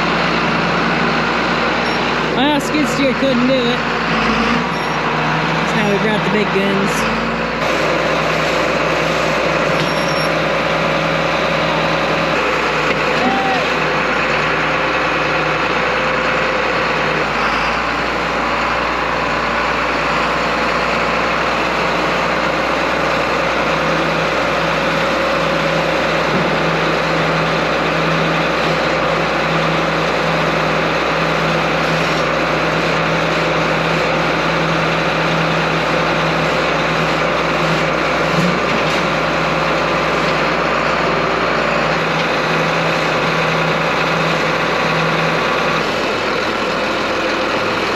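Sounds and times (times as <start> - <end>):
large machine engine droning: 0.0 - 47.9.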